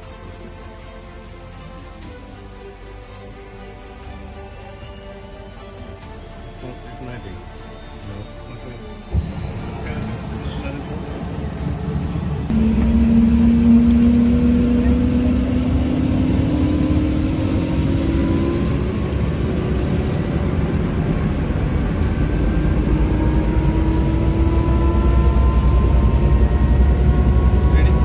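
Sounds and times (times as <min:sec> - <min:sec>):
helicopter turbine starting up: 0:01.5 - 0:28.0.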